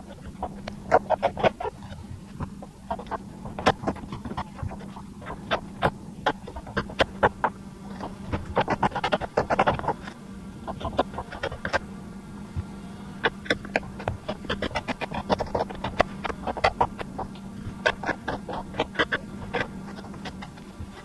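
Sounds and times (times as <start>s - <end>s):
low hum: 0.0s - 21.0s
poultry clucking: 0.0s - 21.0s.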